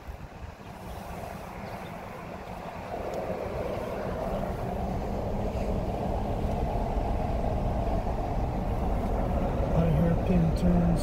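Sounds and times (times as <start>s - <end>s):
car tyre and engine rumble: 0.0s - 11.0s.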